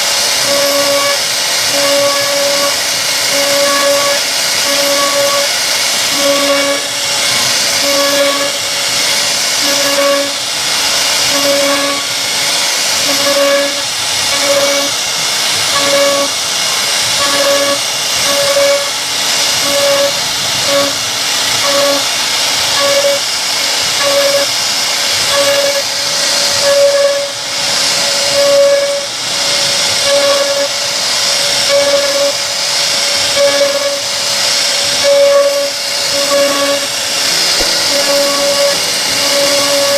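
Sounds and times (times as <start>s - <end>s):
hiss of wood cutting: 0.0s - 39.9s
router spindle whine: 0.0s - 39.9s.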